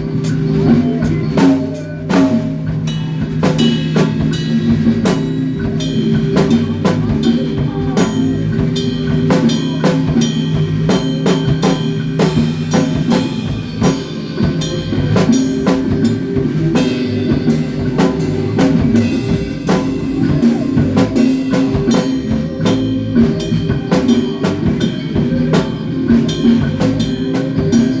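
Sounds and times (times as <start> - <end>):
band playing: 0.0 - 28.0
drum kit kick and snare: 0.0 - 28.0
sustained low notes: 0.0 - 28.0.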